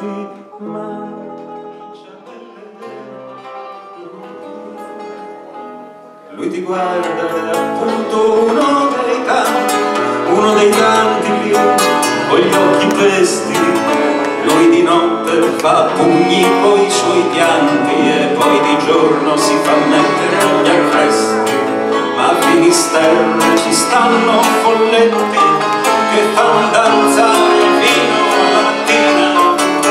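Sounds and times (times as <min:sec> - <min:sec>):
accordion: 0:00.0 - 0:29.9
strummed and plucked guitars: 0:00.0 - 0:29.9.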